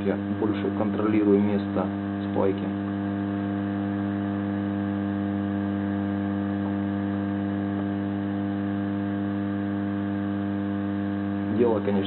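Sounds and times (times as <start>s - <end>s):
hot-air soldering station hum: 0.0s - 12.0s.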